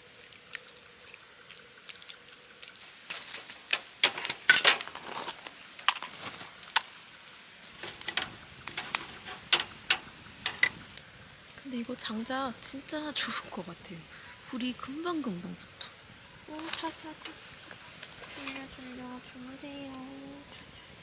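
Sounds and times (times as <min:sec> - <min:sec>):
firewood crackling and popping: 0:00.0 - 0:12.3, 0:15.9 - 0:21.0.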